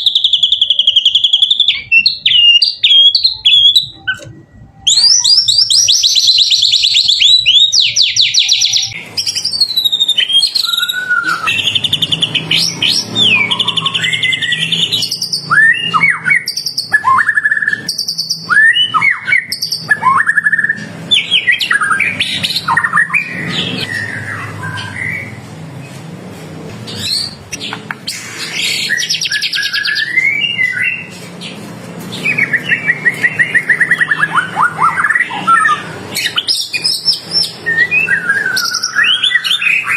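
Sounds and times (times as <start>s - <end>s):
bird singing whistled phrases: 0.0s - 25.4s, 28.5s - 31.1s, 32.2s - 39.9s.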